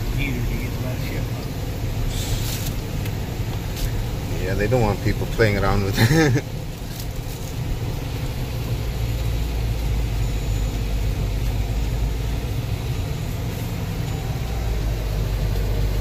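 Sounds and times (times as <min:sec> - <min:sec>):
car engine deep note: 0:00.0 - 0:06.6, 0:07.6 - 0:16.0.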